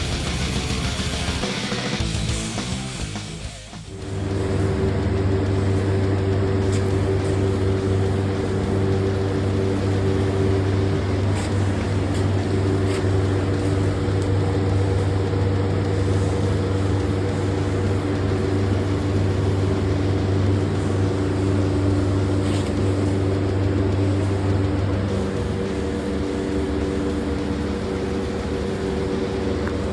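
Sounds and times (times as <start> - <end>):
mechanical hum: 0.0 - 29.9.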